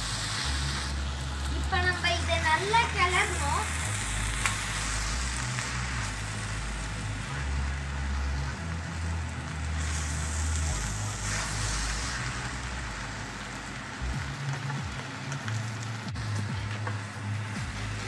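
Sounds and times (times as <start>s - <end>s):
meat sizzling in a wok: 0.0s - 18.0s.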